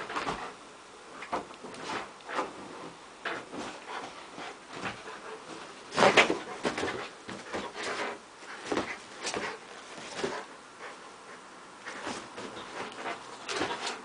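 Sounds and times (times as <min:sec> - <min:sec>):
dog paws scuffing on bedspread: 0:01.2 - 0:11.0, 0:11.8 - 0:14.0.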